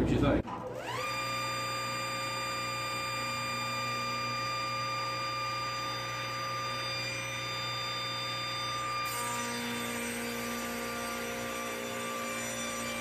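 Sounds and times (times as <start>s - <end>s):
table saw motor and blade whine: 0.7s - 13.0s.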